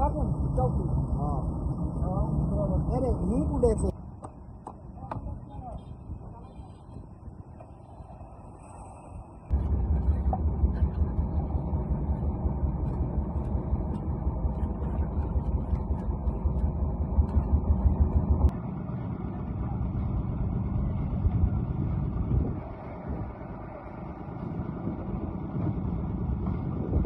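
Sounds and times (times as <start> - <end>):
machine engine rumbling: 0.0 - 27.0.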